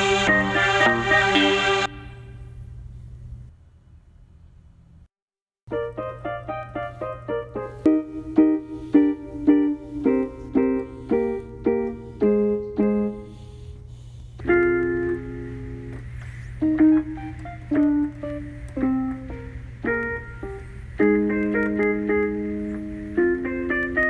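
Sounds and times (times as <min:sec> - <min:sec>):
piano music: 0:00.0 - 0:02.4, 0:05.7 - 0:24.0.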